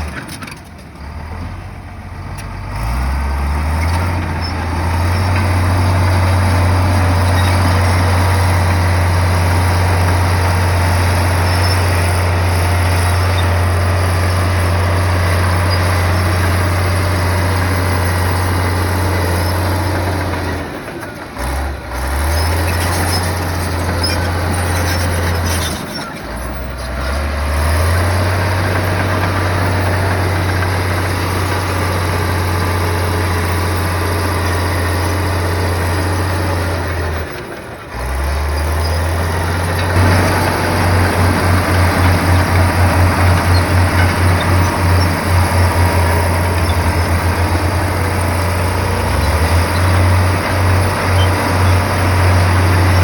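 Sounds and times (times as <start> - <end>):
bulldozer diesel engine drone: 0.0 - 53.0.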